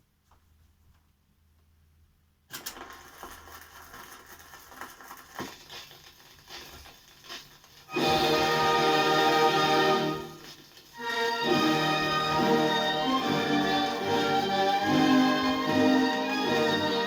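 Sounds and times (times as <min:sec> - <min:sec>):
crackling and clicking noise: 0:02.5 - 0:17.0.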